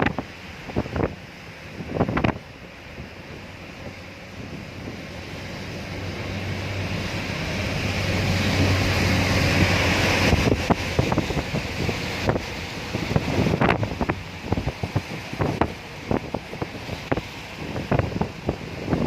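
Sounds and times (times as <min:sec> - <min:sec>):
rushing noise: 0:00.0 - 0:19.0
wind buffeting microphone: 0:00.0 - 0:19.0.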